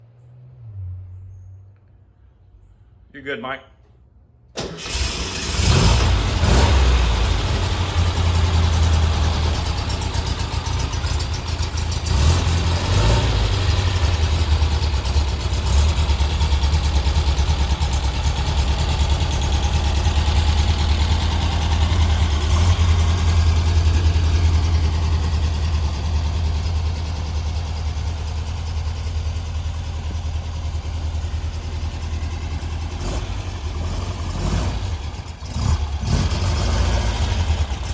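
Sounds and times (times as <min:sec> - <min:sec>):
car engine starting and running: 0:04.5 - 0:37.9.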